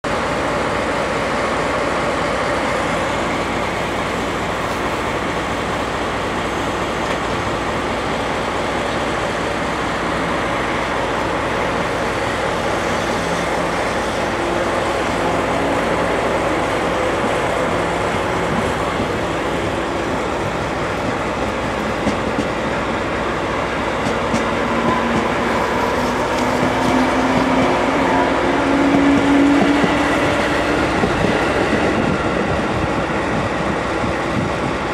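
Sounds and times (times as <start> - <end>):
train motors and wheels running: 0.1 - 34.9.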